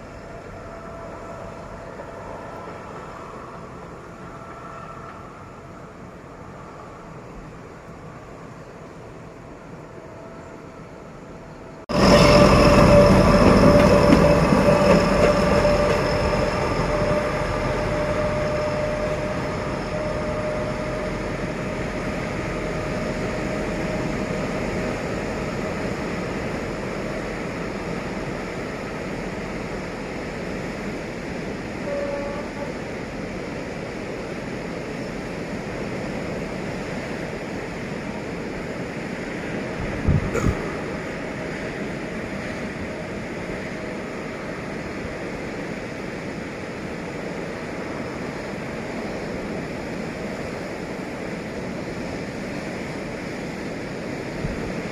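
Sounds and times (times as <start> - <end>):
diesel locomotives running: 0.0 - 54.9.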